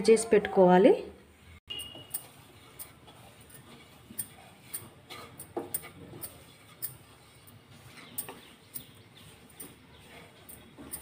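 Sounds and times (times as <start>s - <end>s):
wooden spatula scraping metal pan: 1.3s - 11.0s.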